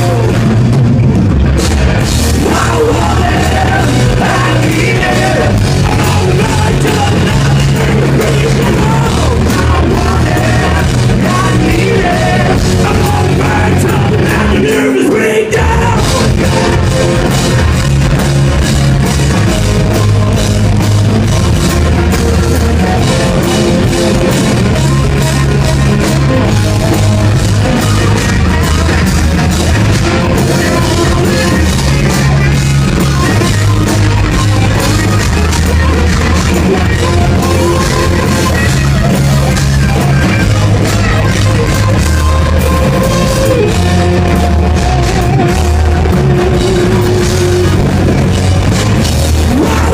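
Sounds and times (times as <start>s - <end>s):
hard rock band playing live: 0.0s - 49.9s.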